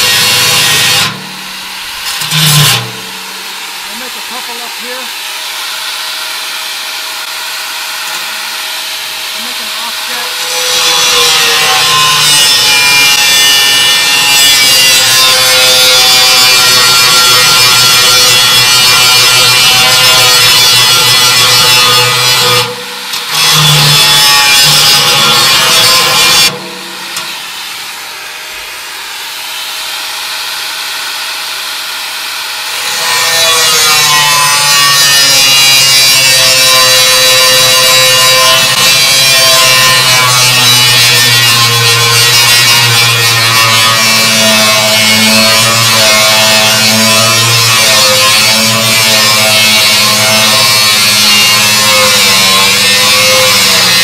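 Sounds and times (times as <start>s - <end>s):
angle grinder cutting steel: 0.0s - 54.0s.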